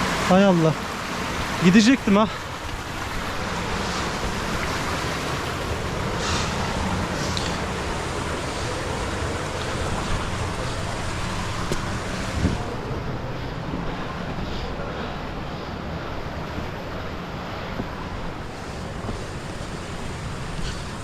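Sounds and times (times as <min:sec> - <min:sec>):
waterfall rushing: 0:00.0 - 0:21.0
wind on microphone: 0:02.7 - 0:21.0.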